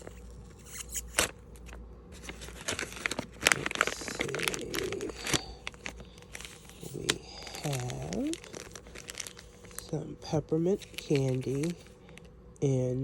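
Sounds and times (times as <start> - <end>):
packaging crinkling and tearing: 0.0 - 12.3.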